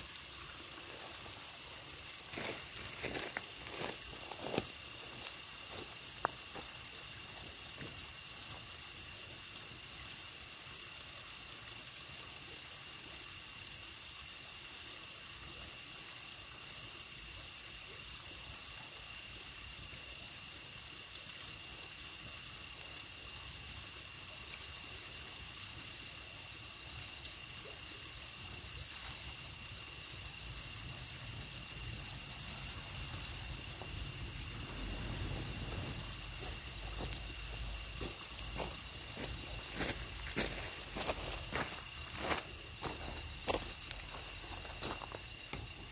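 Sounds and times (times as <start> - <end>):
constant hiss: 0.0 - 45.9.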